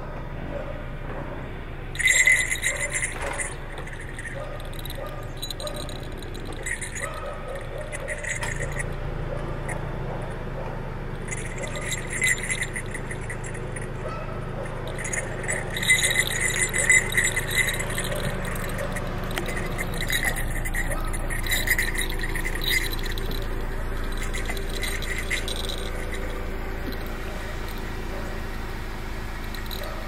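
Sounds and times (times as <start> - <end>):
steady low hum: 0.0 - 30.0
small bells jingling: 1.9 - 30.0.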